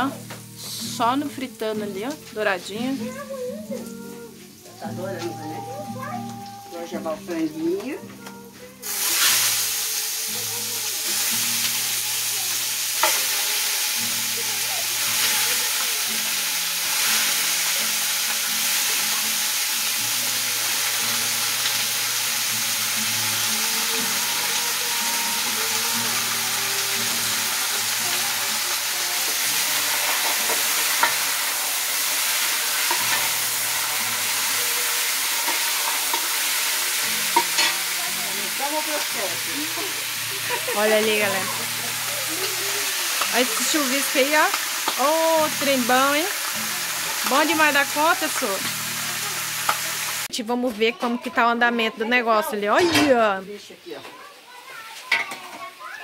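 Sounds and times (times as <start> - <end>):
chicken sizzling in hot oil: 0.0 - 50.3, 52.8 - 56.0.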